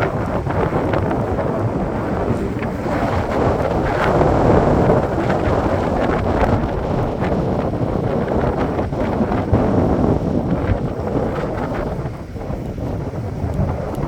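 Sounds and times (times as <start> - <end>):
wind blowing on microphone: 0.0 - 14.0.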